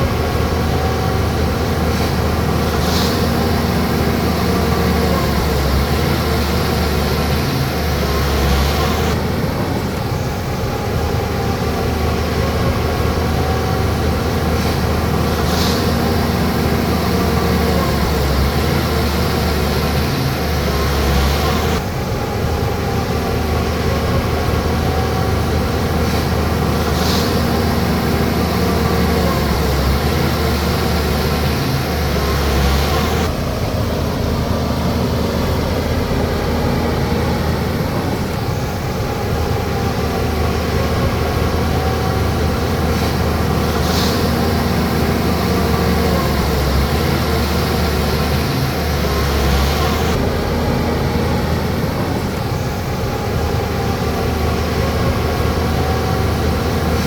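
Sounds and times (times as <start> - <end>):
bulldozer diesel engine running: 0.0 - 57.0
hiss-like rises: 0.0 - 57.0.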